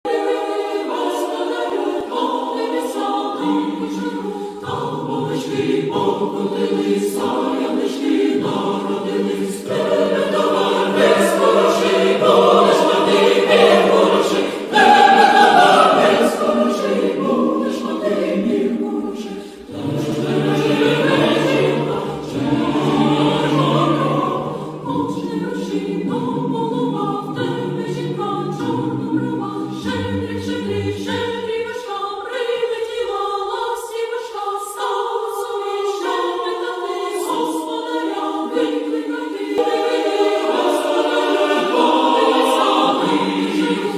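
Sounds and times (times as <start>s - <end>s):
choir singing in harmony: 0.0s - 43.9s.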